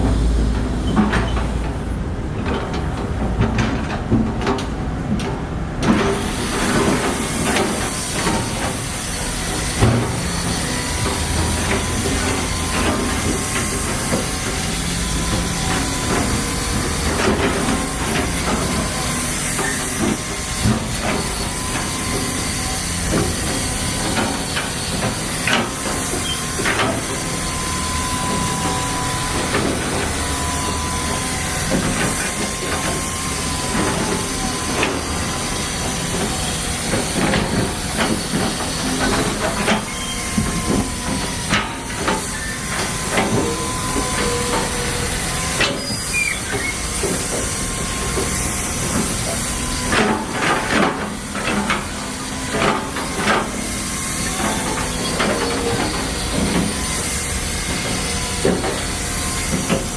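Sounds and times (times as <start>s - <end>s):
digger engine rumble: 0.0s - 59.9s.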